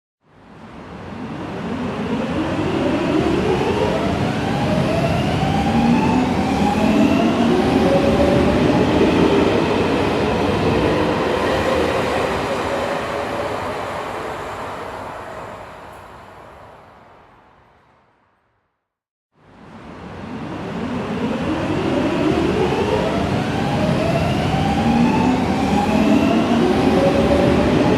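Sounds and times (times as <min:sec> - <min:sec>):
rumble of train cars: 0:00.3 - 0:18.2, 0:19.4 - 0:27.9.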